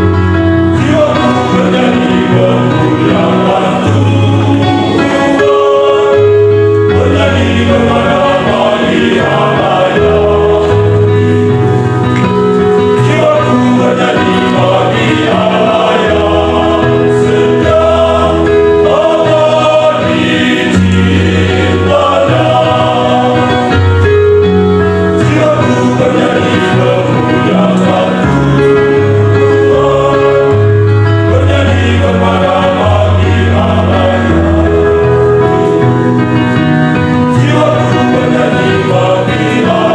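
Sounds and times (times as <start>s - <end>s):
choir singing gospel: 0.0s - 39.9s.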